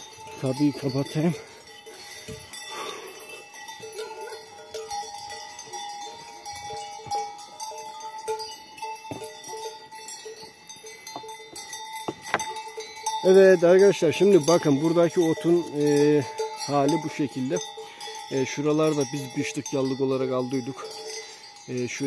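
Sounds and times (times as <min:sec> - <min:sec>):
cowbells clanking: 0:00.0 - 0:22.0.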